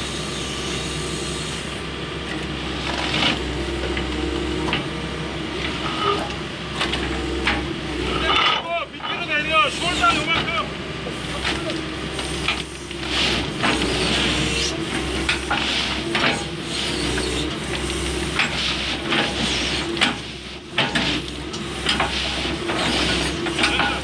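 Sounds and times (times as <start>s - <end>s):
excavator engine hum: 0.0s - 24.0s.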